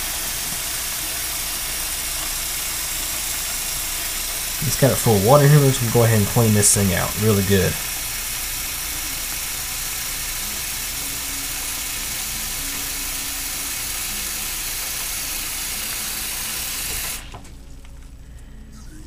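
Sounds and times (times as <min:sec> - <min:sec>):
faucet water running into sink: 0:00.0 - 0:17.4.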